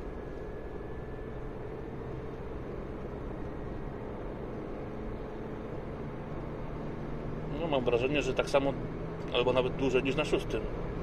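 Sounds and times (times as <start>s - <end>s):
car engine at full throttle: 0.0s - 11.0s
road and wind noise: 0.0s - 11.0s.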